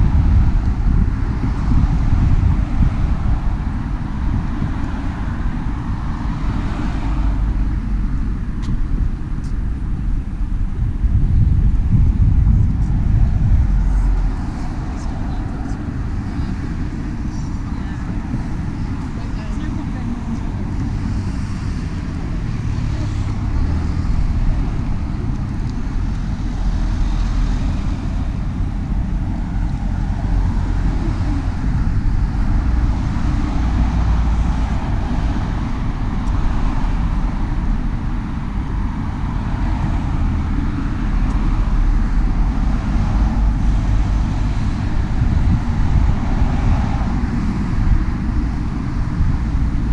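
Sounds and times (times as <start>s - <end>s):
road traffic rumble: 0.0s - 49.9s
wind buffeting microphone: 0.0s - 49.9s.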